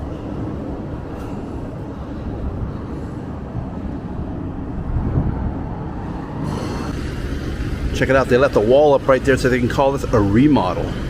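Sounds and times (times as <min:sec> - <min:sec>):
construction machinery rumble: 0:00.0 - 0:11.0.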